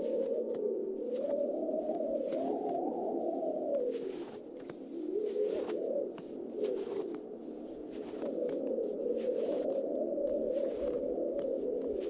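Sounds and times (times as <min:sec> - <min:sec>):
wind with hollow whistle: 0:00.0 - 0:12.0.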